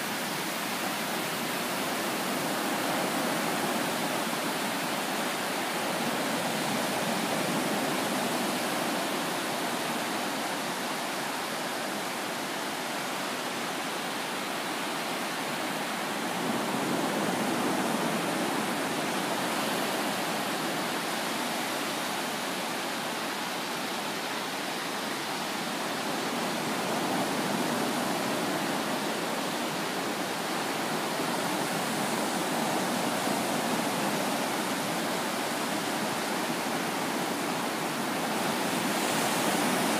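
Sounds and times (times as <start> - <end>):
ocean surf on sandy beach: 0.0 - 39.9.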